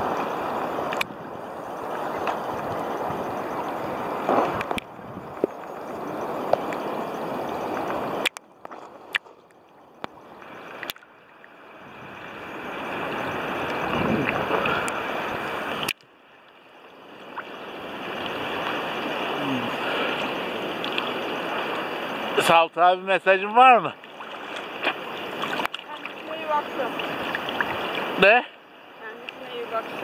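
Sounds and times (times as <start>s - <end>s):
sea water splashing: 0.0s - 22.7s, 23.3s - 30.0s.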